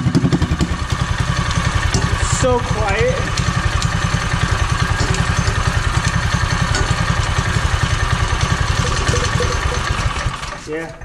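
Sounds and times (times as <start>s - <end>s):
small gas engine running: 0.0s - 11.0s.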